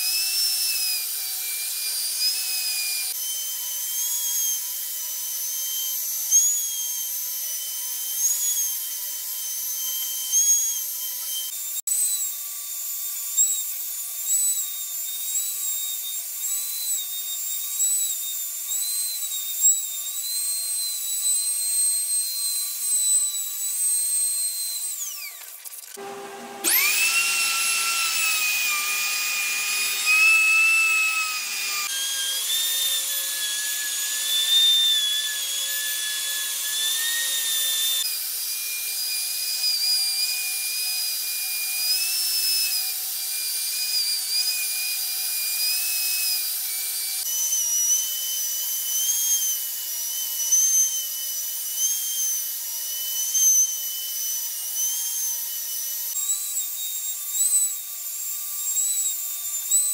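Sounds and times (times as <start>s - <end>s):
router whining cutting wood: 0.0s - 59.9s.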